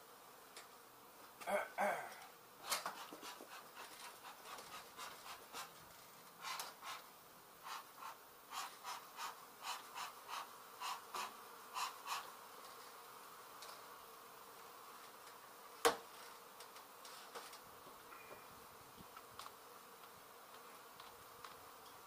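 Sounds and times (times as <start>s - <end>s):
faint buzz of bees: 0.0s - 22.0s.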